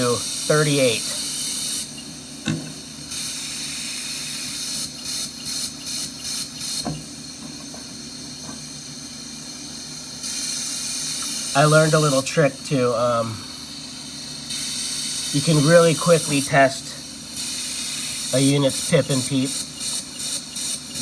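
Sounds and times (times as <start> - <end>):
compressed air hissing: 0.0 - 21.0.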